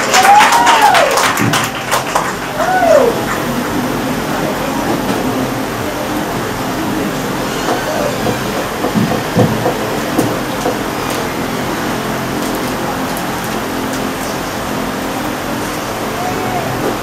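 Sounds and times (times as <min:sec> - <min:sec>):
crowded hall hiss: 0:00.0 - 0:17.0.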